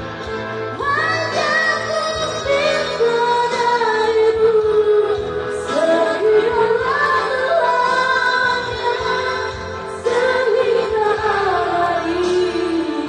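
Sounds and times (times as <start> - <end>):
slow pop song with singing: 0.0 - 13.0.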